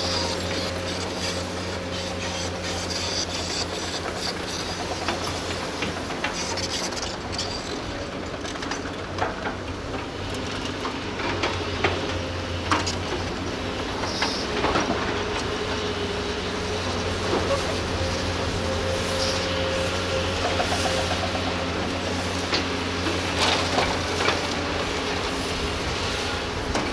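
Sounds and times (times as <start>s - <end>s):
excavator diesel engines running: 0.0s - 26.9s.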